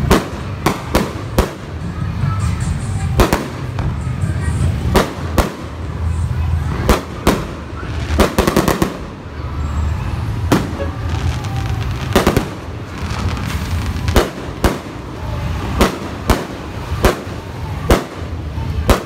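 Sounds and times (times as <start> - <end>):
fireworks bangs: 0.0 - 2.4, 3.0 - 19.0
fireworks crackling: 0.0 - 19.0.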